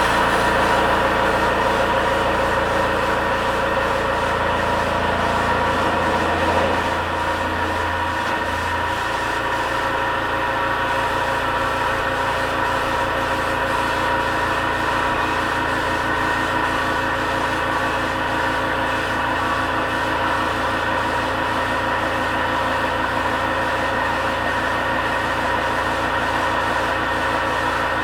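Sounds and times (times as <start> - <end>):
air compressor humming: 0.0 - 28.0.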